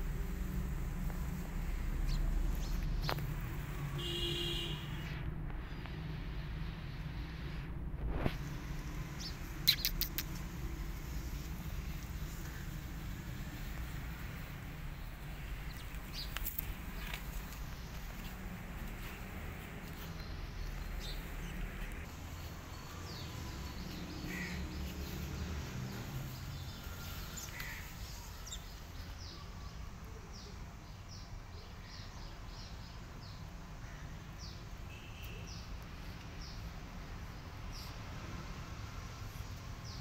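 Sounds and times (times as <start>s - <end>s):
birds calling and chirping: 1.0s - 7.1s, 8.2s - 38.0s.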